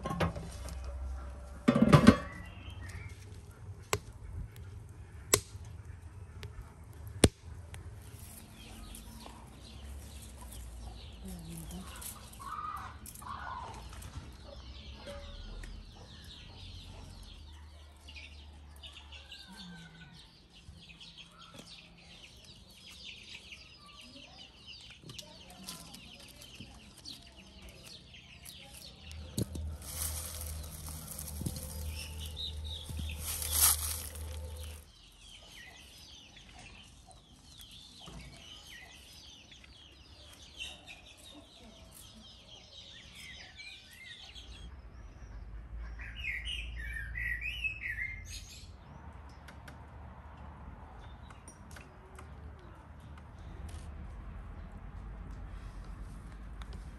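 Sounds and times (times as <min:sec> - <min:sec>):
small birds chirping: 0:02.2 - 0:49.5.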